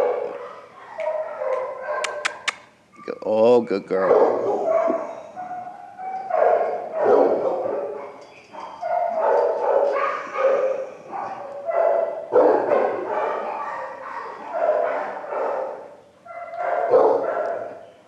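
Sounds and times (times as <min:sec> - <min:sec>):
dog barking: 0:00.0 - 0:02.6, 0:04.0 - 0:17.8.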